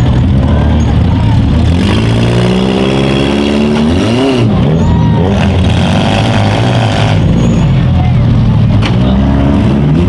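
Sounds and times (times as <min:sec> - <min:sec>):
car engines running hard: 0:00.0 - 0:10.0
engine revving: 0:00.0 - 0:10.0.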